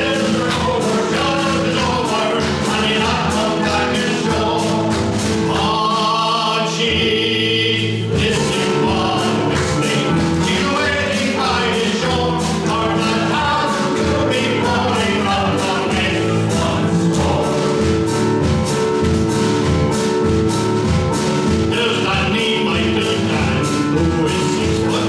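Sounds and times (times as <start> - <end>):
voices singing together: 0.0 - 18.3, 21.6 - 25.0
live band playing: 0.0 - 25.0.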